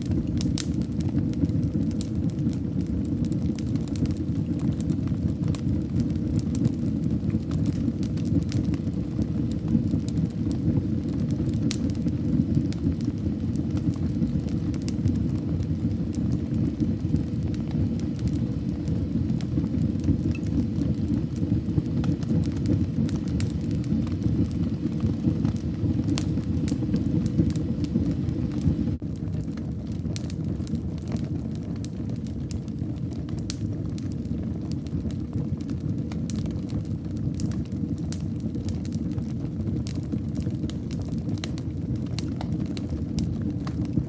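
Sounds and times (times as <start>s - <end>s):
burning wood crackling and popping: 0.0s - 44.0s
low rumble of flames: 0.0s - 44.0s.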